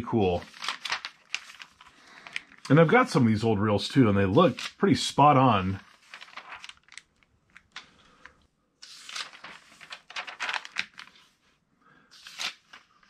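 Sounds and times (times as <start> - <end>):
paper pages flipping: 0.3 - 3.0, 4.4 - 4.8, 5.5 - 13.0.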